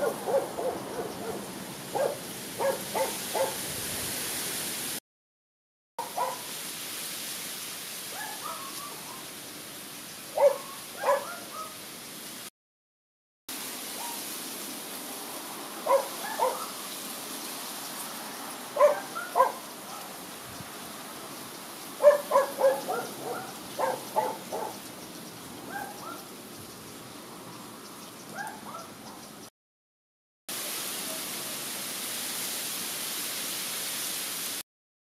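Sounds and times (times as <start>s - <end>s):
steady outdoor hiss: 0.0s - 5.0s, 6.0s - 12.5s, 13.5s - 29.5s, 30.5s - 34.6s.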